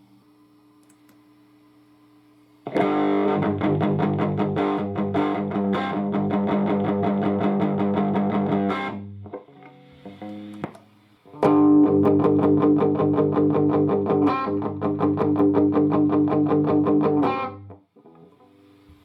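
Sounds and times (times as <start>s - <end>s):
faint amp hum: 0.0s - 19.0s
overdriven electric guitar: 2.6s - 19.0s.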